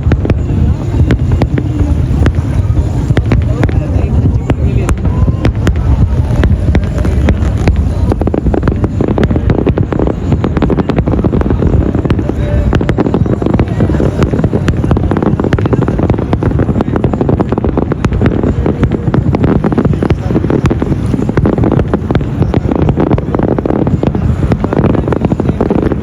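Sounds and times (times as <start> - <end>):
fireworks popping and crackling: 0.0 - 26.0
wind buffeting microphone: 0.0 - 26.0.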